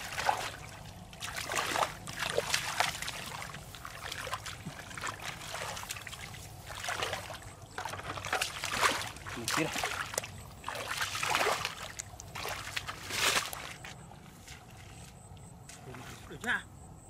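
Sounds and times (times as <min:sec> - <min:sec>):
hands splashing in muddy water: 0:00.0 - 0:15.1.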